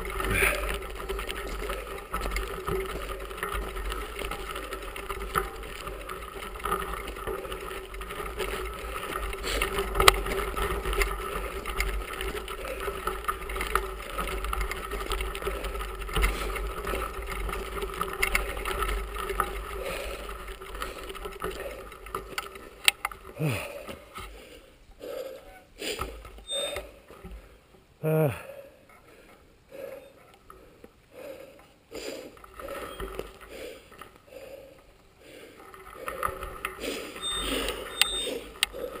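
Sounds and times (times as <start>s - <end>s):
bicycle tyres crunching on gravel: 0.0s - 24.8s, 31.9s - 39.0s.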